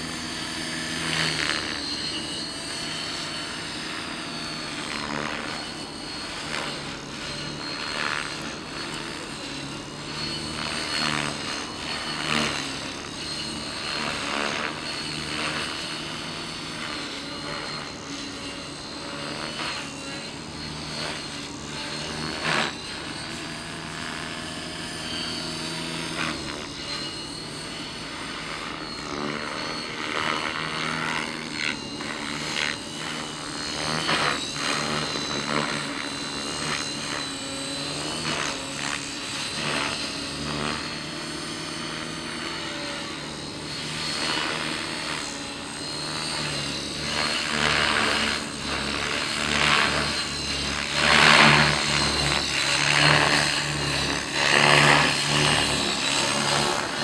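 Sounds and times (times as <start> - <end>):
motor and gear whine: 0.0 - 57.0
spinning rotor hum: 0.0 - 57.0.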